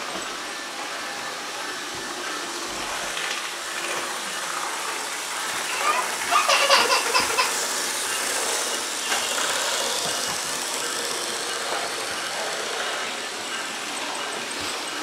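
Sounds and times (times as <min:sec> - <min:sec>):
model locomotive whirring hiss: 0:00.0 - 0:15.0.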